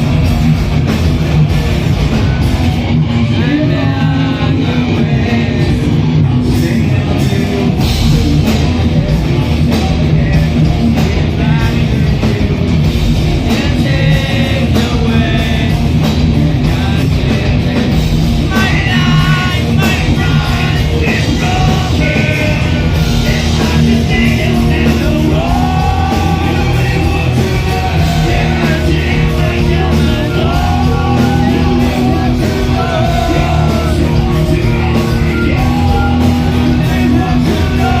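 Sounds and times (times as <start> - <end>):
rock song with heavy guitars: 0.0 - 38.0
sung and yelled vocals: 0.0 - 38.0.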